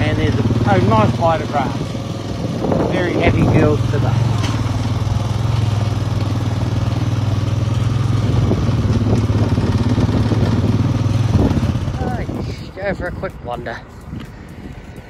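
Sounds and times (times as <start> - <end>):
motorbike engine running: 0.0 - 14.2.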